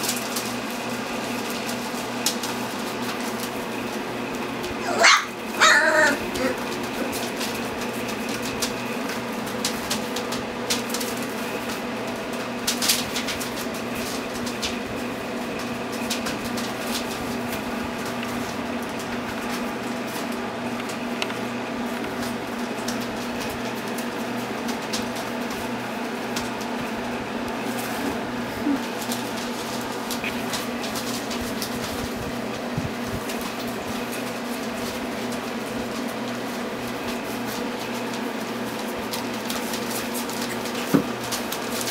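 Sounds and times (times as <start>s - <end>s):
low electrical hum: 0.0s - 41.9s
puppy paws scuffling on newspaper: 0.0s - 41.9s.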